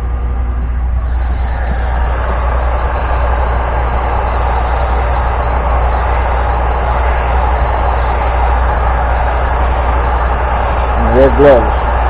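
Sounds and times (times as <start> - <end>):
heat gun blowing: 0.0 - 12.0.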